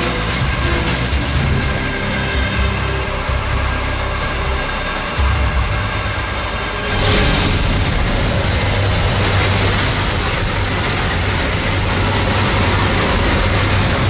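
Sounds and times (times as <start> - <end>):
loud rushing noise: 0.0 - 14.0
motor running: 0.0 - 14.0.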